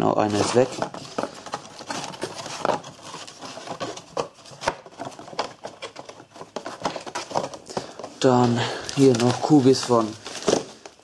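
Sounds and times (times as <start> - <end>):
cardboard boxes knocking and scraping: 0.2 - 11.0.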